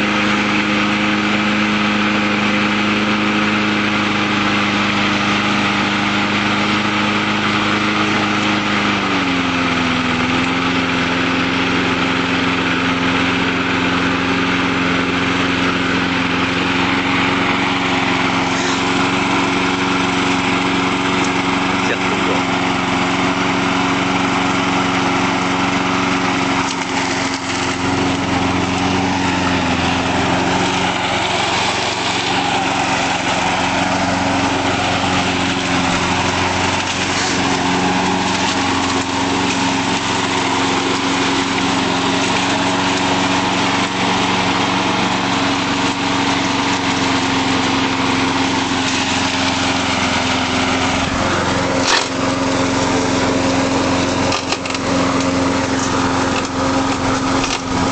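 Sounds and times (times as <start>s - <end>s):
lawnmower engine running: 0.0s - 57.9s.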